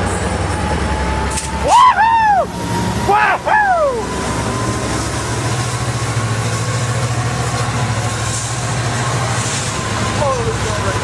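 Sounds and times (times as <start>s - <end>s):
locomotive diesel engine drone: 0.0s - 11.0s
moving train noise: 0.0s - 11.0s.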